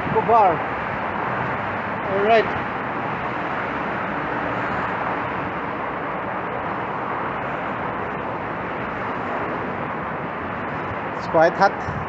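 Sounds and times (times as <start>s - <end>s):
passing cars and tyres: 0.0s - 12.0s.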